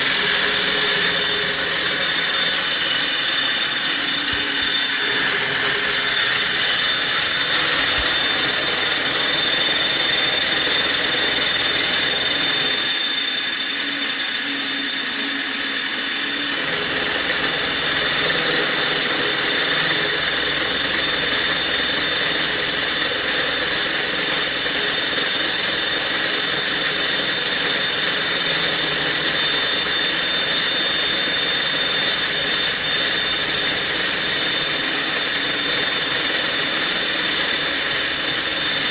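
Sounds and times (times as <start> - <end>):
milling machine whine: 0.0 - 38.9.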